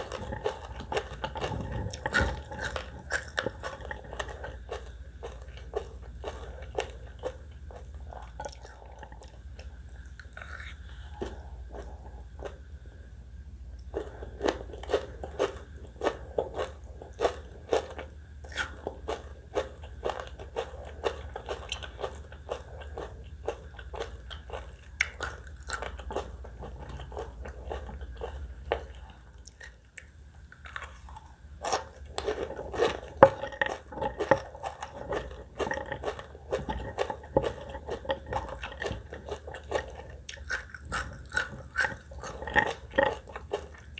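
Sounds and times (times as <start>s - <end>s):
crunching and chewing food: 0.0s - 43.9s.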